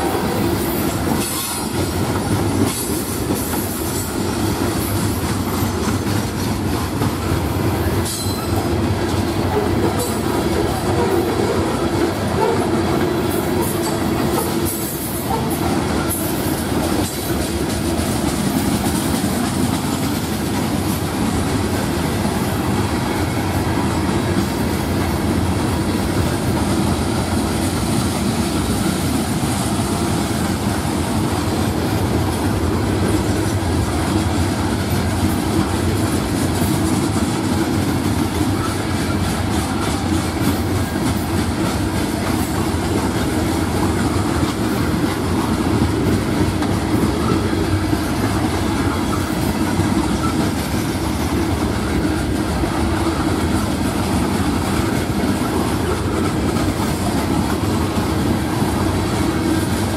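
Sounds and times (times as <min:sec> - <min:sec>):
freight cars rolling on rails: 0:00.0 - 0:59.9.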